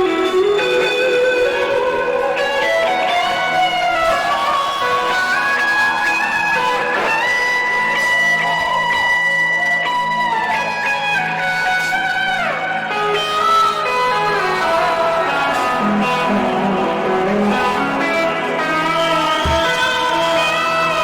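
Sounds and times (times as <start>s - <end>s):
electric guitar solo: 0.0s - 21.0s.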